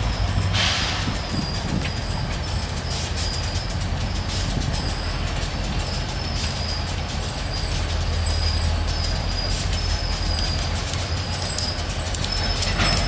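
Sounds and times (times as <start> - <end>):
freight train rumbling: 0.0 - 13.0
high-pitched wheel squeals: 0.0 - 13.0
wheels clicking over rails: 0.0 - 13.0.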